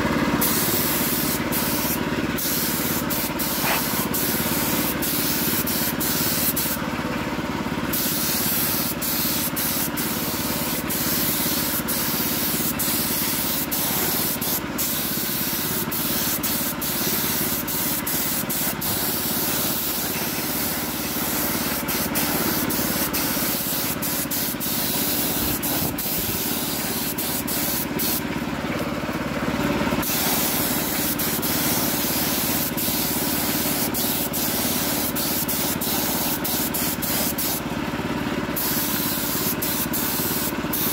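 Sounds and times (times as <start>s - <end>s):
paint spraying hiss: 0.4s - 6.8s, 7.9s - 28.2s, 30.0s - 37.6s, 38.6s - 40.9s.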